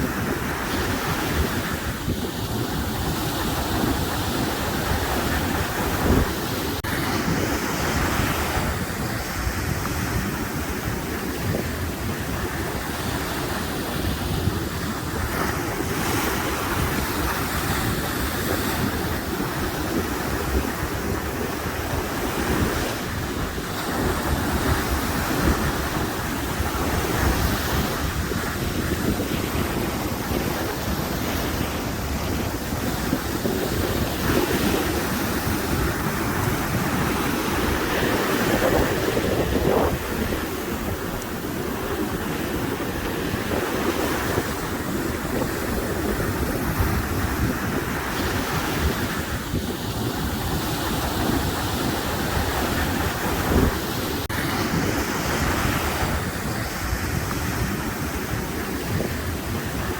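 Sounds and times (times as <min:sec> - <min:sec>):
sea waves washing ashore: 0:00.0 - 0:59.9
wind buffeting microphone: 0:00.0 - 0:59.9.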